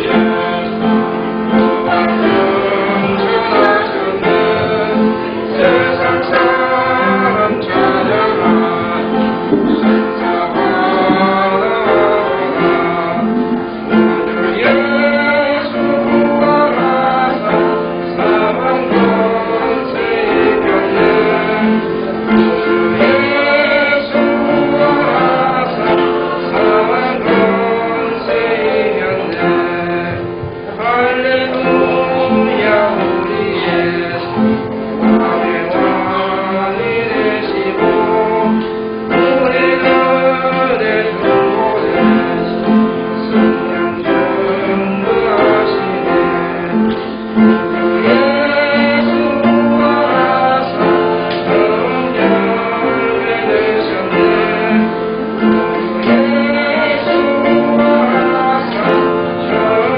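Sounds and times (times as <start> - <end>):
congregation singing a hymn: 0.0 - 59.9
guitar chords: 0.0 - 59.9.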